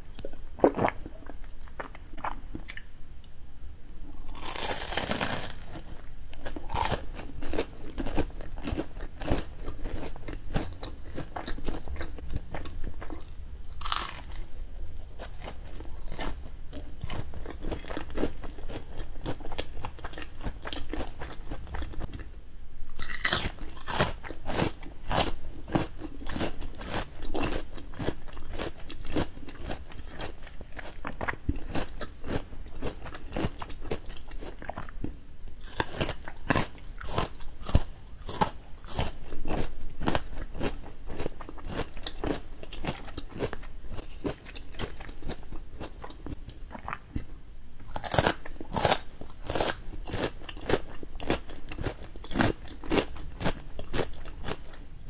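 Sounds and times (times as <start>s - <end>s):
person chewing food: 0.2s - 2.9s, 4.3s - 14.5s, 15.1s - 22.3s, 22.9s - 54.8s
crunching raw vegetable sticks: 4.3s - 14.5s, 15.2s - 22.2s, 22.9s - 35.0s, 35.6s - 47.2s, 47.8s - 54.8s.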